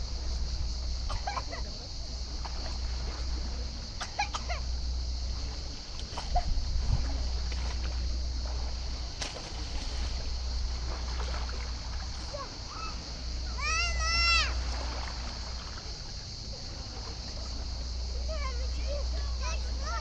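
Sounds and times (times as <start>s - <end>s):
wind rumble on microphone: 0.0s - 19.9s
faint distant calls: 0.0s - 20.0s
small waves on pebble shore: 1.6s - 20.0s.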